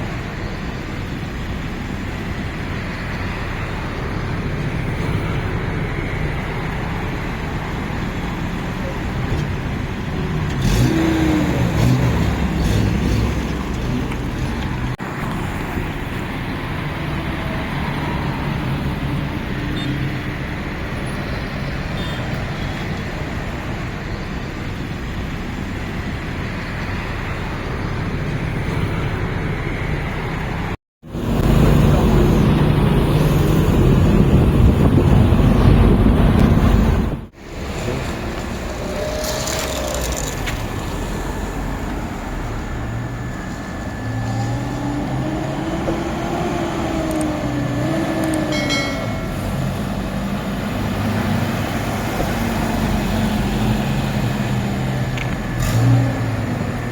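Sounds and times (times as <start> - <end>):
road noise: 0.0 - 56.9
vehicle engine hum: 0.0 - 56.9.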